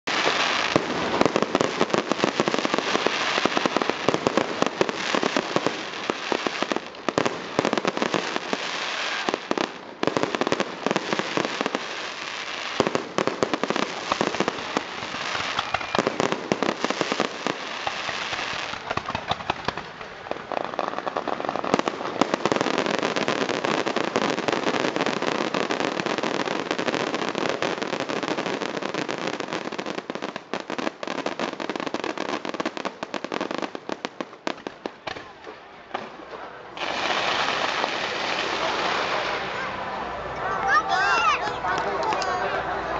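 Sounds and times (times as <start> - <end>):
fireworks crackling and popping: 0.0 - 42.9.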